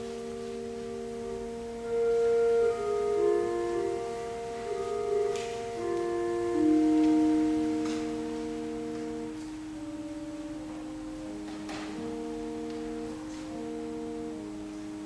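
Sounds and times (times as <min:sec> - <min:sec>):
pipe organ playing: 0:00.0 - 0:15.0.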